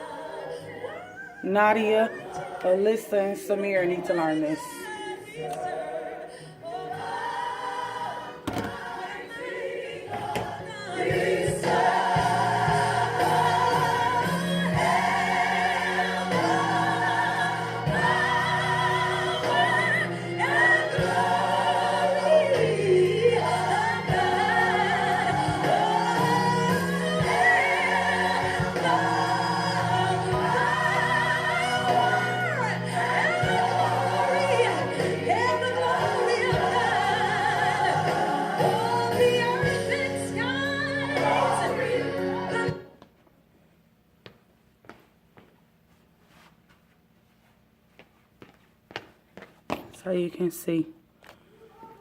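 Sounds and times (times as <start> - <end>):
gospel choir singing: 0.0 - 43.0.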